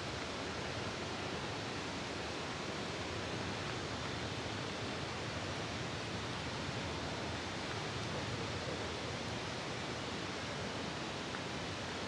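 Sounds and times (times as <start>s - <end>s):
rushing outdoor ambience in rain: 0.0s - 12.0s.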